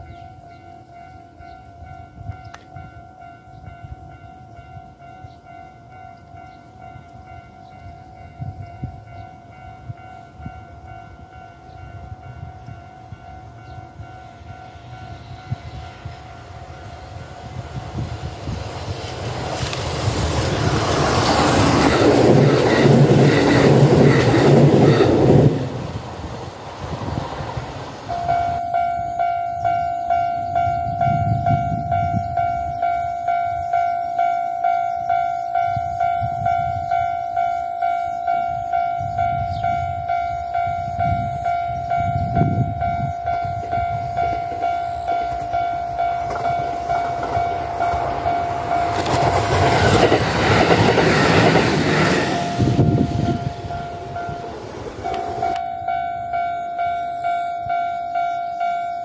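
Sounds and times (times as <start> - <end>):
level-crossing bell ringing: 0.0 - 17.0, 28.1 - 59.0
electric train passing: 0.0 - 59.0.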